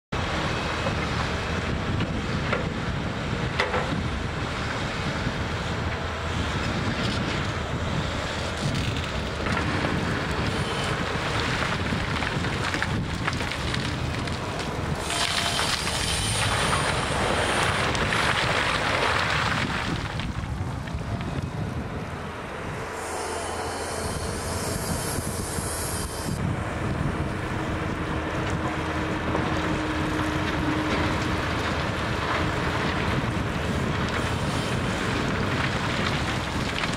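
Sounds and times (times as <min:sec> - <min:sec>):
tracked excavator running: 0:00.2 - 0:36.9
wind on microphone: 0:00.2 - 0:36.9.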